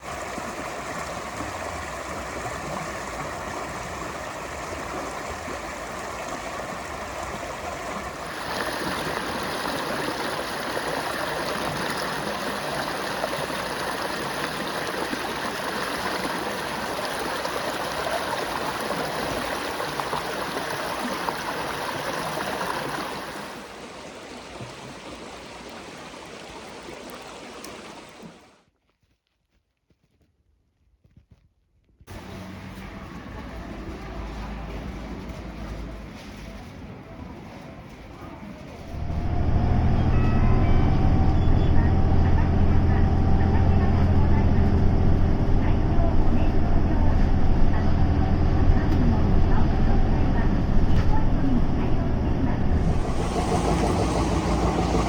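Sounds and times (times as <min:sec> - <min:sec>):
stream rushing: 0:00.0 - 0:28.6, 0:32.1 - 0:37.0, 0:38.8 - 0:49.1, 0:52.6 - 0:55.0.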